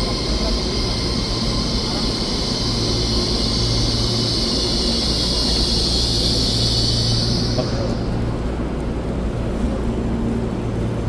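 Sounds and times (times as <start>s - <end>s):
electric train hum and hiss: 0.0s - 11.0s.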